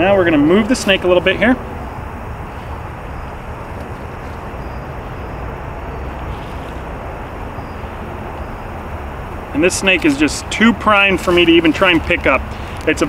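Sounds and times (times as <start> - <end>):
low outdoor background rumble: 0.0 - 13.0
rustling of dry leaves: 0.0 - 13.0.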